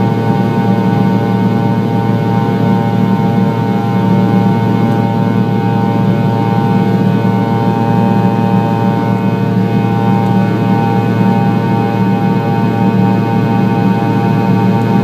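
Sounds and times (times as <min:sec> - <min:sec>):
jet engine rumble and whine: 0:00.0 - 0:15.0.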